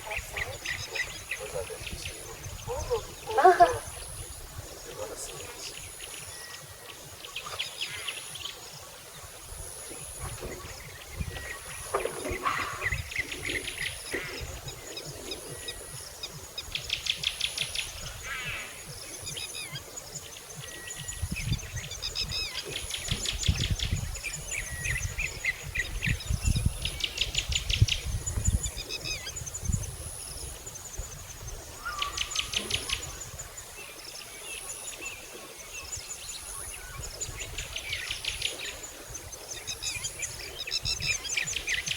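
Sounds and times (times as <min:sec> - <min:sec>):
birds chattering trills: 0:00.0 - 0:41.9.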